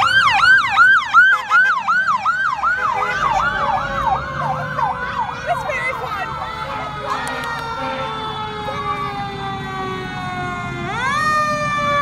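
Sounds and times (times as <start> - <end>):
fire truck siren yelping: 0.0 - 12.0.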